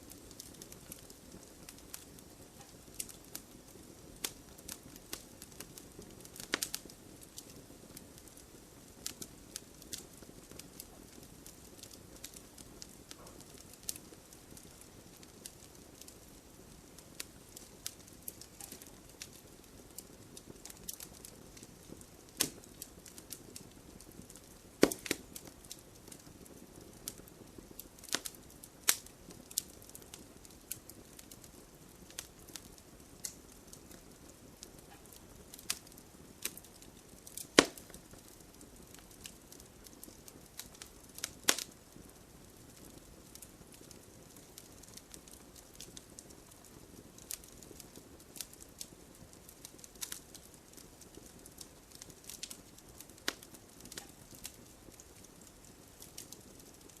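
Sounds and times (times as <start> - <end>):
campfire crackling and popping: 0.0 - 57.0
soft steady hiss: 0.0 - 57.0.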